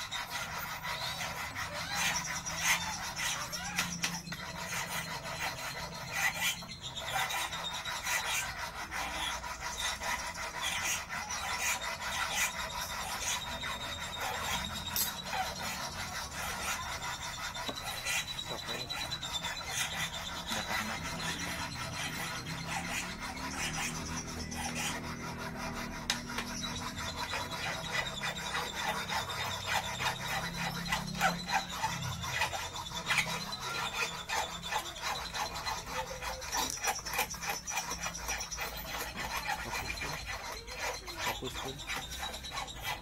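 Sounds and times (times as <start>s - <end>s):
wire scraping against steel plate: 0.0s - 43.0s.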